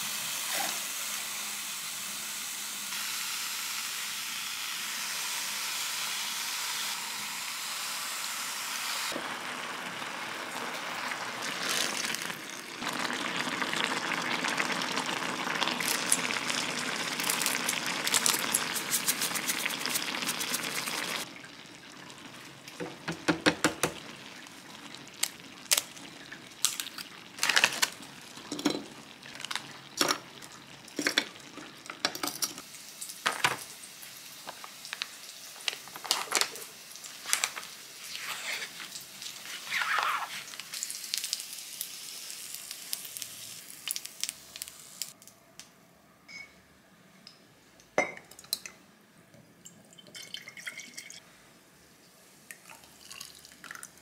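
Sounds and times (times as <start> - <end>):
food frying in oil: 0.0 - 45.2.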